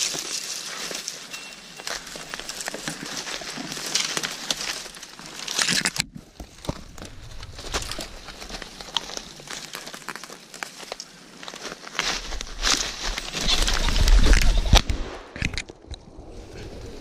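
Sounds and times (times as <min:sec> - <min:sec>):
footsteps crunching through snow: 0:00.0 - 0:15.2
twigs scraping against clothing: 0:00.0 - 0:17.0.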